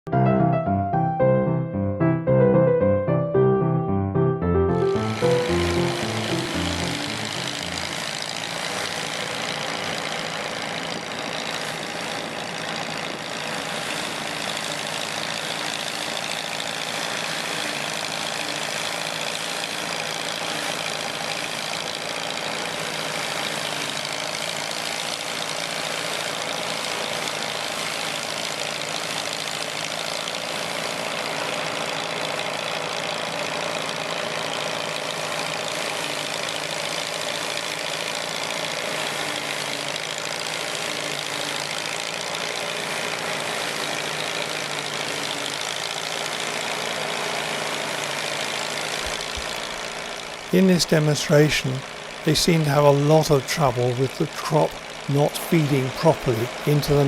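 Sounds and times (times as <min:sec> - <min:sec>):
combine harvester mechanical drone: 0:04.4 - 0:57.0.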